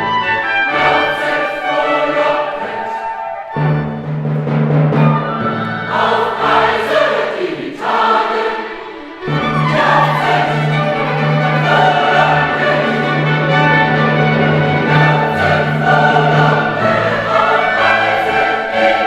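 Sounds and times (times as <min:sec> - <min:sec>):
choir singing: 0:00.0 - 0:04.3, 0:05.0 - 0:19.0.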